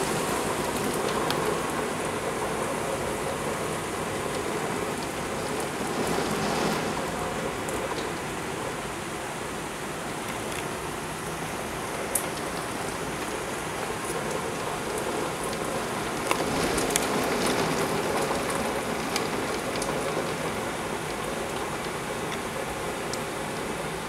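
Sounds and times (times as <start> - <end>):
heavy rain hissing: 0.0 - 24.0
raindrops ticking close by: 0.0 - 24.0.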